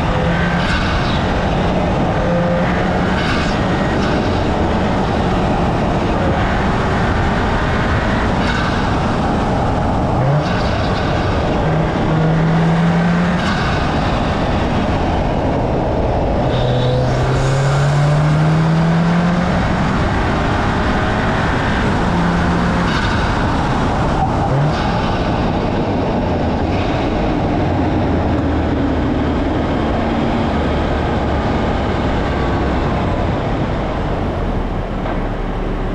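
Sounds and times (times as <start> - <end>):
car engine accelerating: 0.0 - 35.9
steady rushing noise: 0.0 - 35.9.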